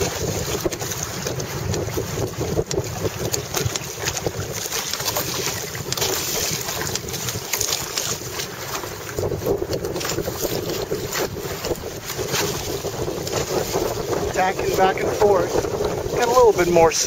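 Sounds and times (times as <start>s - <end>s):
water slapping along hull: 0.0s - 17.0s
wind buffeting microphone: 0.0s - 17.0s.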